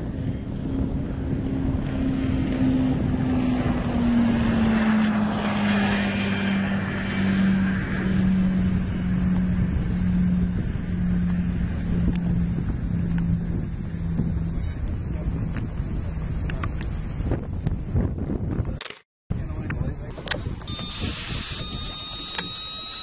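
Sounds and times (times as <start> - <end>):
speedboat engine at full throttle: 0.0 - 17.9, 19.9 - 23.0.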